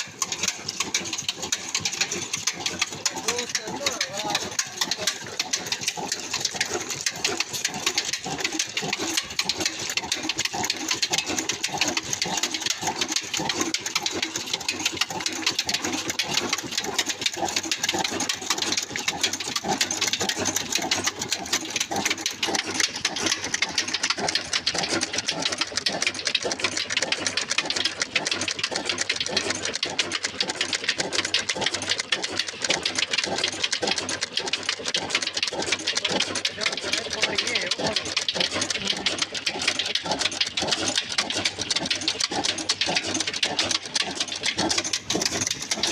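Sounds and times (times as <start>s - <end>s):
diesel engine clattering: 0.0s - 45.9s.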